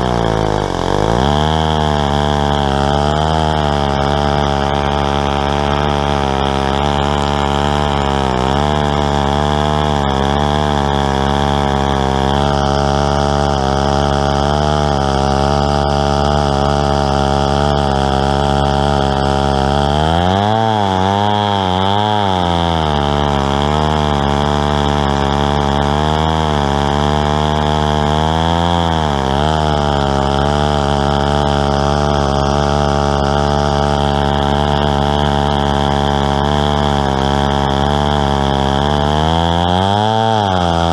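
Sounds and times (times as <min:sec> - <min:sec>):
chainsaw cutting a log: 0:00.0 - 0:40.9.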